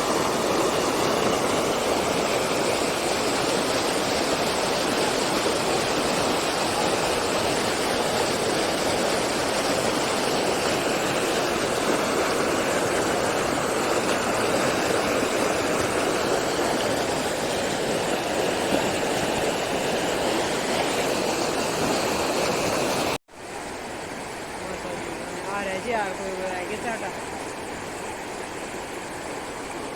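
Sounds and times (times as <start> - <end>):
stream rushing: 0.0 - 29.9.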